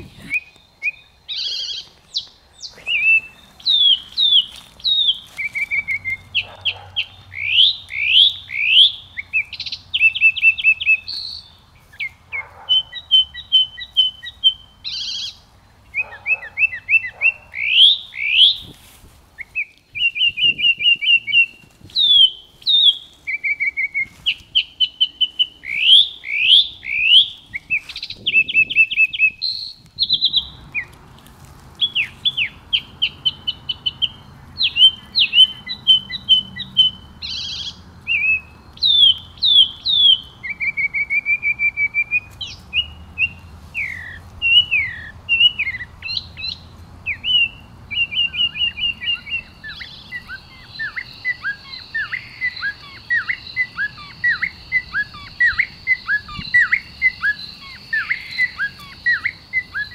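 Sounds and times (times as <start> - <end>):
songbirds singing and chirping: 0.0 - 59.9.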